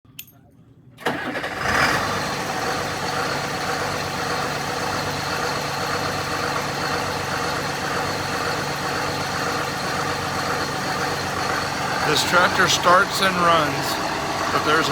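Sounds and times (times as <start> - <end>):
tractor diesel engine idling: 1.0 - 14.9.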